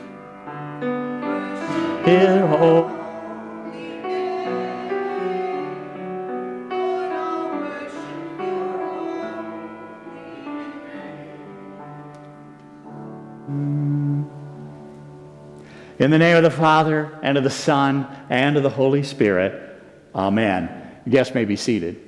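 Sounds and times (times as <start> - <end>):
slow piano chords: 0.0 - 20.1.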